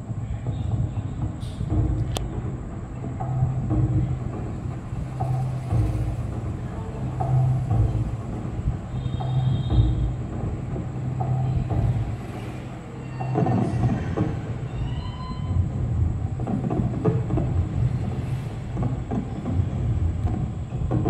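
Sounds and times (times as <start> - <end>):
fireworks rumbling and banging: 0.0 - 21.0.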